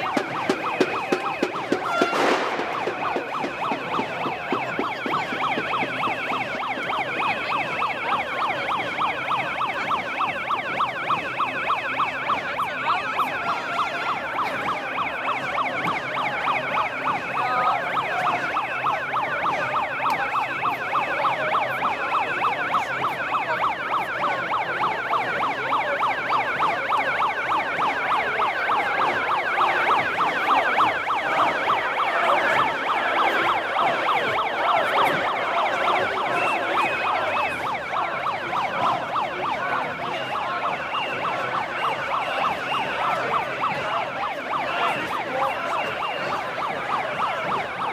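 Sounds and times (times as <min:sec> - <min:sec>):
crowd noise: 0:00.0 - 0:47.9
siren yelping warble: 0:00.0 - 0:47.9.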